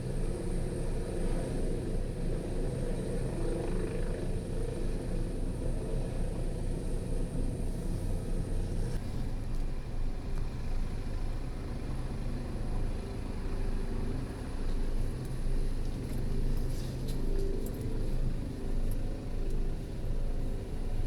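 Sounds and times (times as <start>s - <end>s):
helicopter rotor and engine drone: 0.0s - 21.0s.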